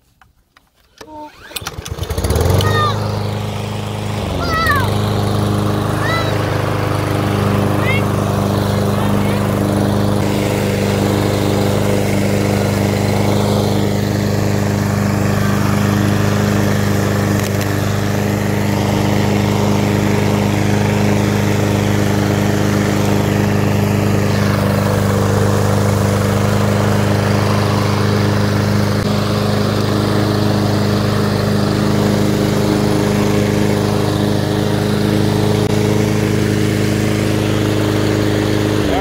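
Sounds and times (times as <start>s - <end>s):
lawn mower engine running: 0.6s - 39.0s.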